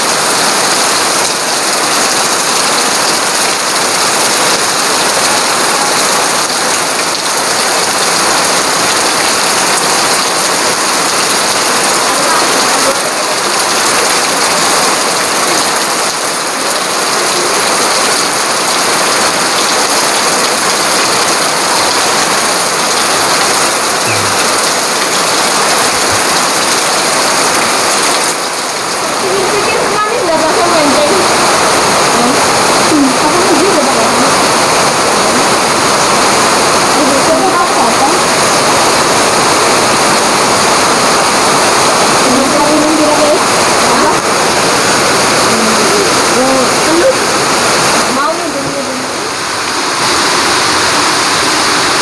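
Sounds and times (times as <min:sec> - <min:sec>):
heavy rain falling: 0:00.0 - 0:52.0
water pouring off roof: 0:00.0 - 0:52.0.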